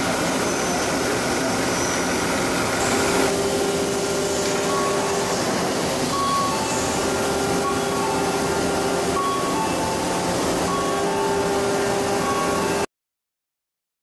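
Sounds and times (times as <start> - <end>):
milling machine cutting steel: 0.0 - 12.8.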